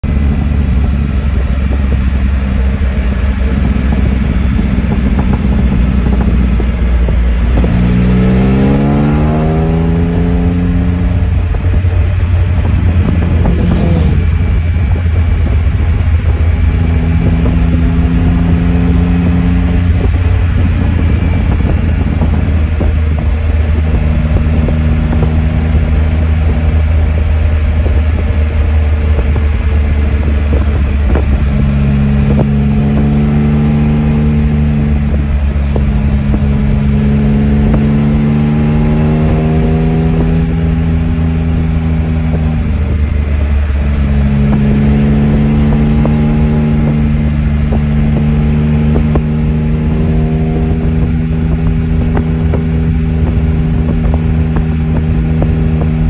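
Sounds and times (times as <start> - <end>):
motorcycle engine running loud: 0.0 - 56.0.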